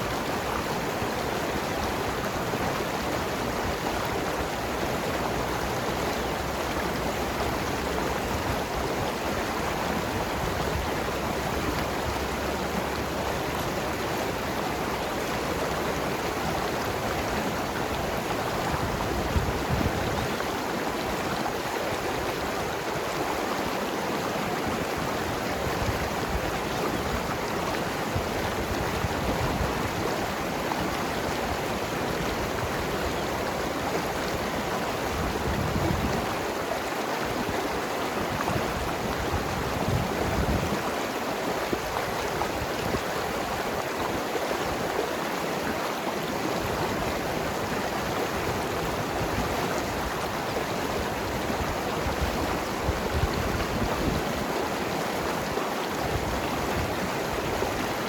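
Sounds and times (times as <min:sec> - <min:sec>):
river gurgling over rocks: 0:00.0 - 0:58.0.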